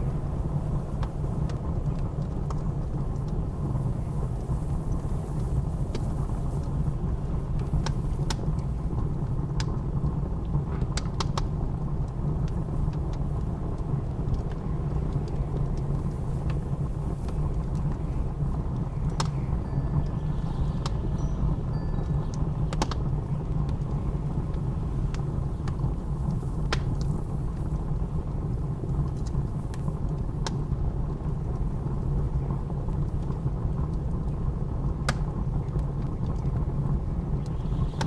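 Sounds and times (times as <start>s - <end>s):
blizzard wind roaring: 0.0s - 38.0s
wood fire crackling and popping: 0.0s - 38.0s.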